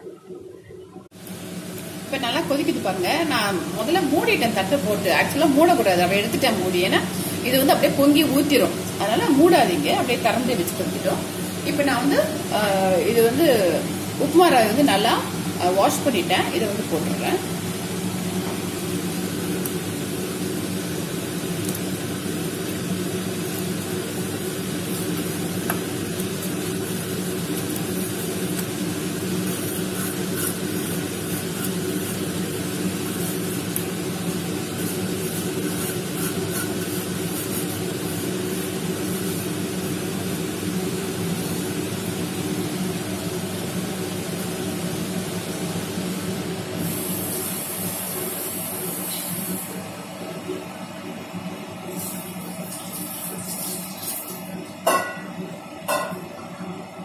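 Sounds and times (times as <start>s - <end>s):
water boiling in a pot: 0.0s - 57.0s
gas burner hum: 0.1s - 57.0s.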